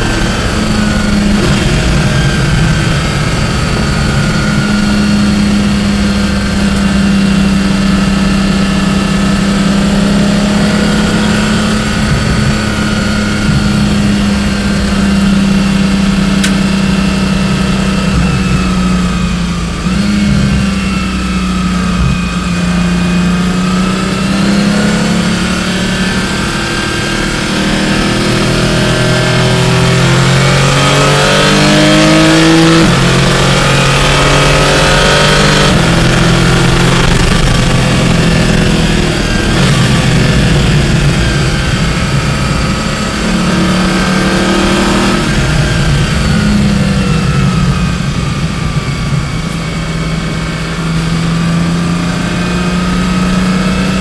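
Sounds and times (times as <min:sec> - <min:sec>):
car engine at speed: 0:00.0 - 0:54.0
road and wind noise: 0:00.0 - 0:54.0.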